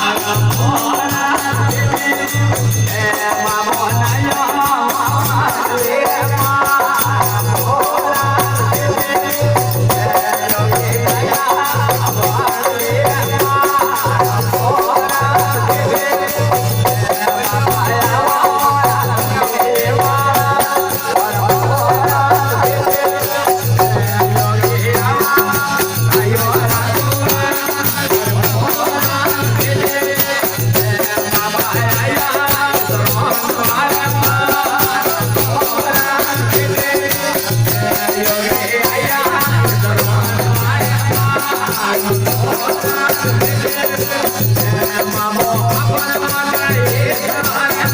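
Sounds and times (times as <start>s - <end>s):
rattling percussion: 0.0s - 47.9s.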